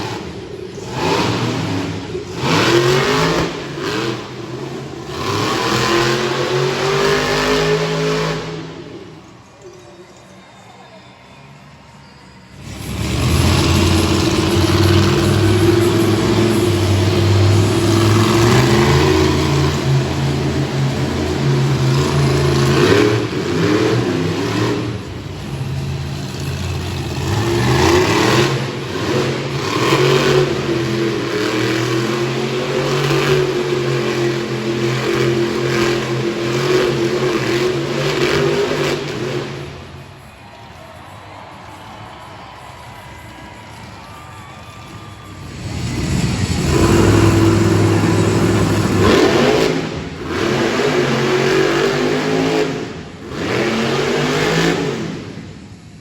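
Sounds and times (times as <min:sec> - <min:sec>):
truck engine revving: 0:00.0 - 0:09.3, 0:12.5 - 0:40.1, 0:45.2 - 0:56.0.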